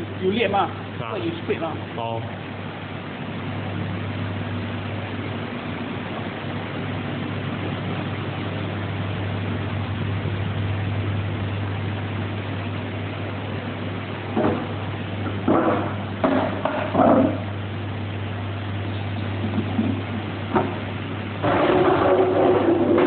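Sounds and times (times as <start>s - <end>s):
steady machine hum: 0.0s - 23.0s.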